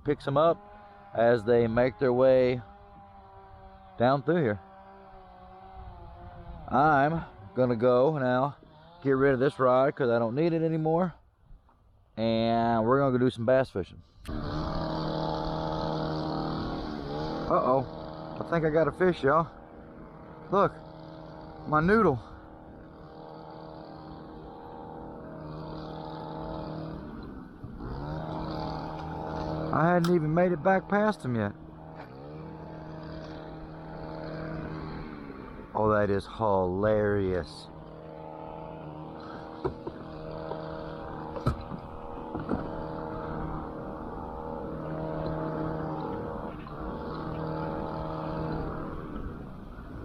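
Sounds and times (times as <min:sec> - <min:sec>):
small boat motor humming: 0:00.0 - 0:12.8, 0:14.0 - 0:50.0.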